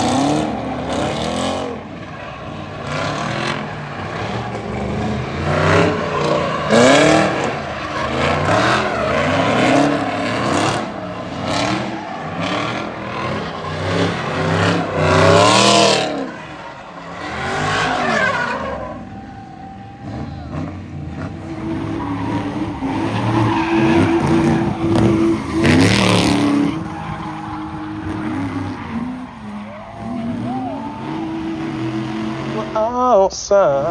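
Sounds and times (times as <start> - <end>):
tires squealing and skidding: 0.0 - 33.0
car engines revving: 0.0 - 33.9.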